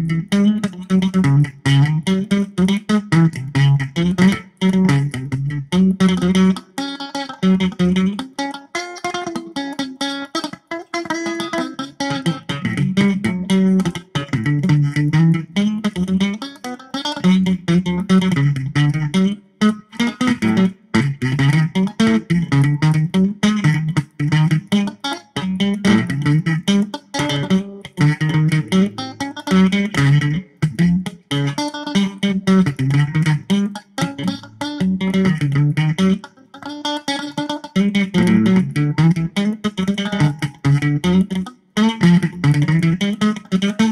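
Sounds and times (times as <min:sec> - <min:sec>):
distorted electric guitar riff: 0:00.0 - 0:43.9.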